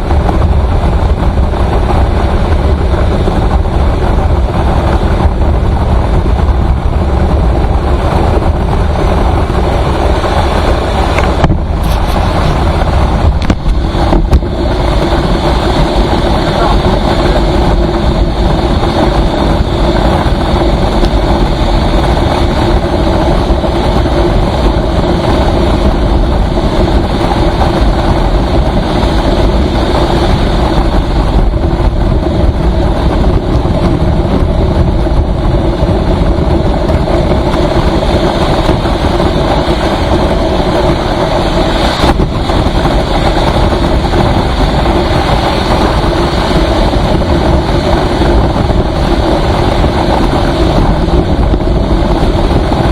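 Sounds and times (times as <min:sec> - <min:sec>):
vehicle engine and road noise: 0:00.0 - 0:52.9.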